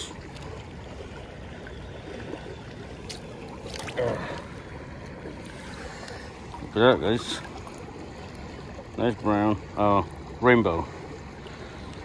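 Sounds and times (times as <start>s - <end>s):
creek water running over rocks: 0.0s - 12.0s
water splashes: 0.0s - 12.0s.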